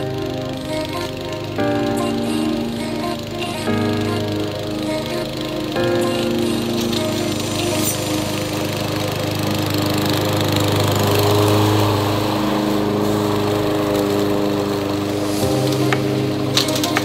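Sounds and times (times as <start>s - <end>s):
push mower mulching dry leaves: 0.0s - 17.0s.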